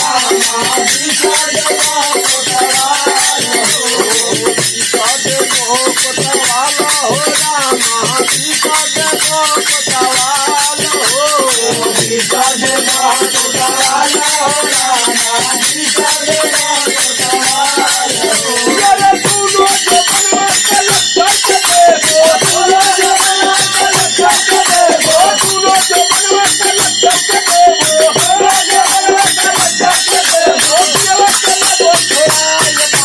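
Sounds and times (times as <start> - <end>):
drum beats: 0.0 - 33.0
hand cymbals clashing: 0.0 - 33.0.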